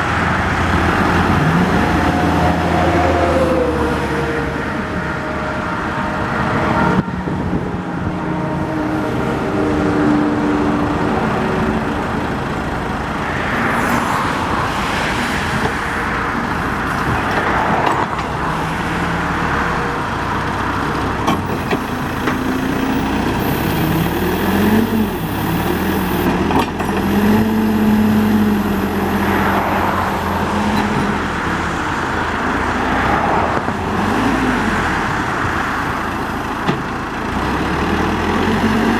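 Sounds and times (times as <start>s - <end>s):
diesel engine revving: 0.0s - 6.7s, 9.0s - 38.9s.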